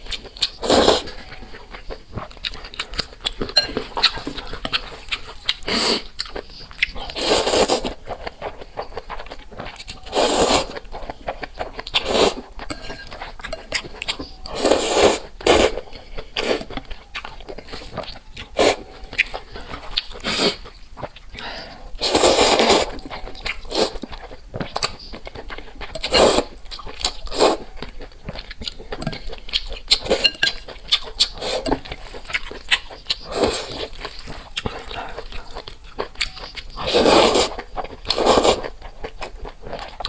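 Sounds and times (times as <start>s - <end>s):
chewing and crunching: 0.0s - 40.0s.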